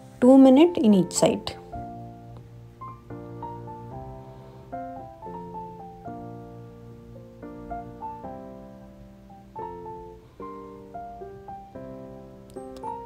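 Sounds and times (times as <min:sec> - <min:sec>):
soft instrumental music: 0:00.0 - 0:13.0.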